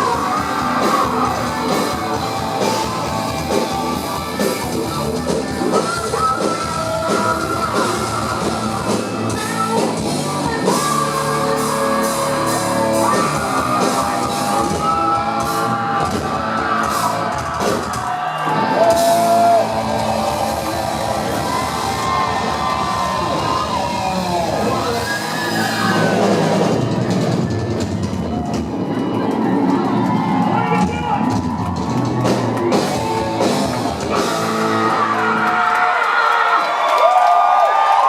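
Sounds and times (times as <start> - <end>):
hard rock band playing: 0.0 - 35.8.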